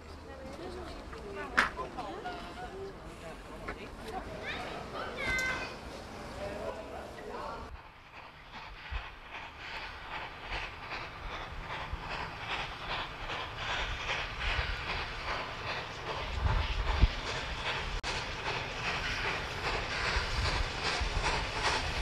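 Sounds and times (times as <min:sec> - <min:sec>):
steam locomotive exhaust chuffing: 0:00.2 - 0:22.0.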